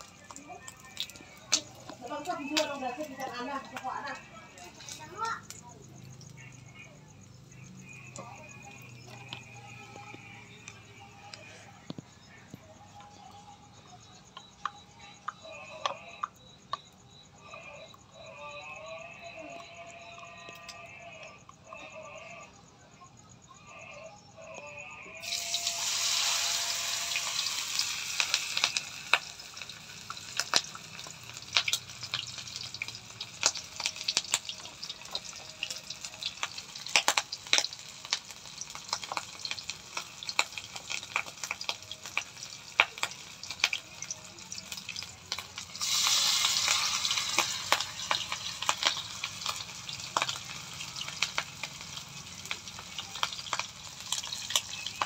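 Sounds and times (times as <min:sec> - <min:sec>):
deep-frying sizzle with pops: 0:00.0 - 0:23.5, 0:25.2 - 0:55.0.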